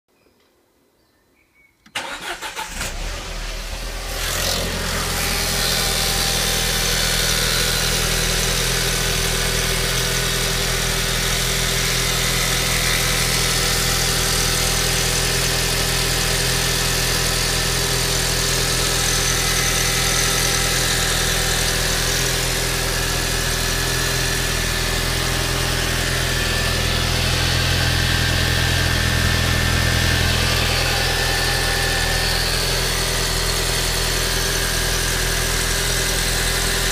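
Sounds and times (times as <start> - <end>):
car engine idling: 2.0 - 36.9.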